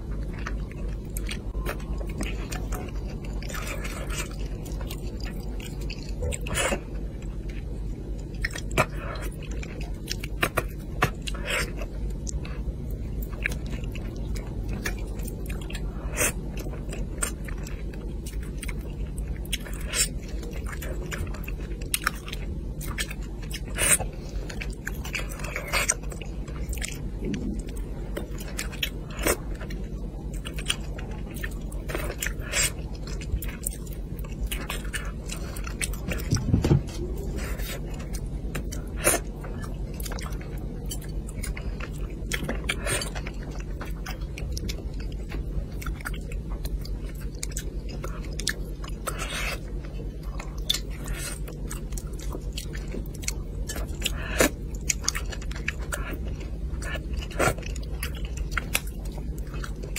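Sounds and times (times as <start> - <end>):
person chewing and biting: 0.0 - 59.9
steady low hum: 0.0 - 59.9.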